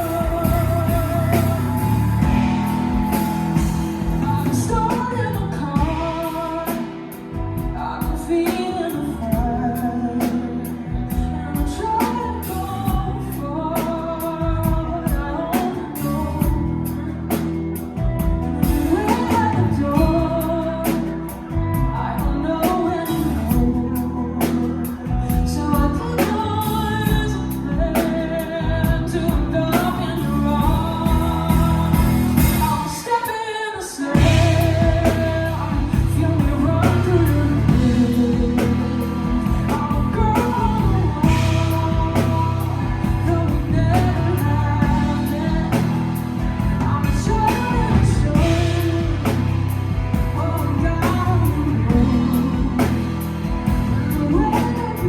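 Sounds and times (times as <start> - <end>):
band playing drums and bass: 0.0 - 33.2, 34.1 - 55.0
person singing with vibrato: 0.0 - 55.0.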